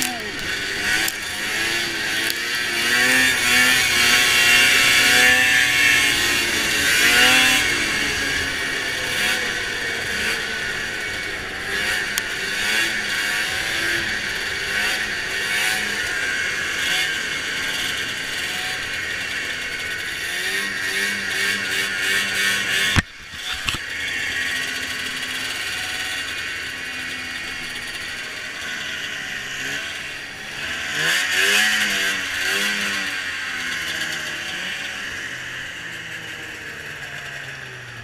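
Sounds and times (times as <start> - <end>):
snowmobile engine running hard: 0.0 - 38.0.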